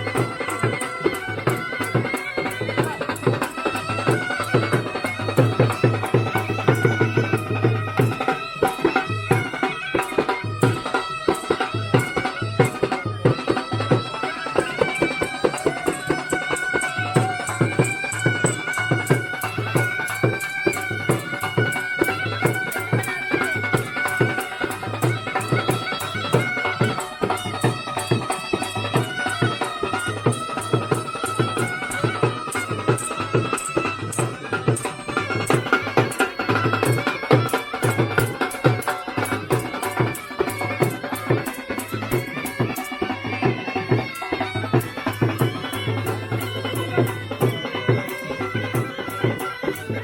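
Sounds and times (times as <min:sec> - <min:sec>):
drums beating: 0:00.0 - 0:50.0
reedy pipe melody: 0:00.0 - 0:50.0.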